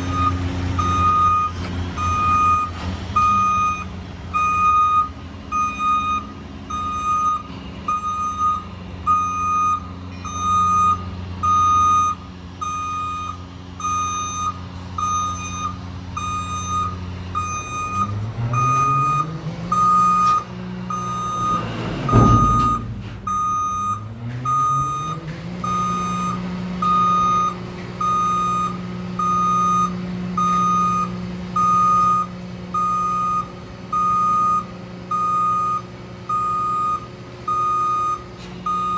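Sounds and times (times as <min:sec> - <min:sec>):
truck backup alarm beeping: 0:00.0 - 0:38.9
truck engine idling and revving: 0:00.0 - 0:38.9.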